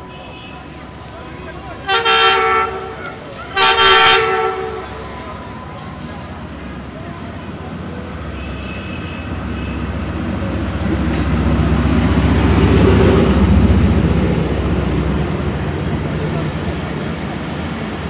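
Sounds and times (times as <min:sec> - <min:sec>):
diesel locomotive engine rumble: 0:00.0 - 0:18.0
train coaches rolling on rails: 0:00.0 - 0:18.0.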